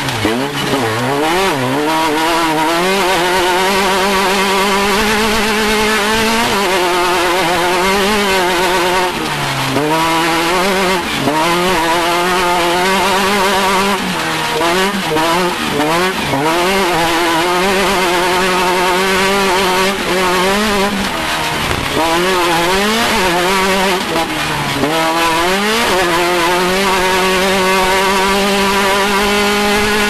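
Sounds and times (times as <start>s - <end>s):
race vehicle engine revving: 0.0s - 30.0s.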